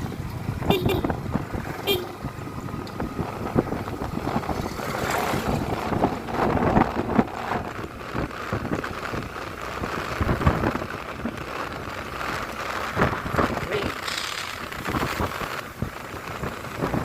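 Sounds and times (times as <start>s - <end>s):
road and traffic noise: 0.0s - 17.0s
wind buffeting microphone: 0.0s - 17.0s.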